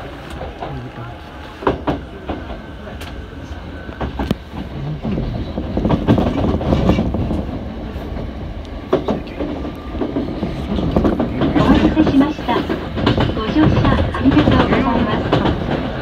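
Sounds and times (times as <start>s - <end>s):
train running rumble: 0.0s - 16.0s
train wheels clacking over rail joints: 1.6s - 3.2s, 3.9s - 16.0s.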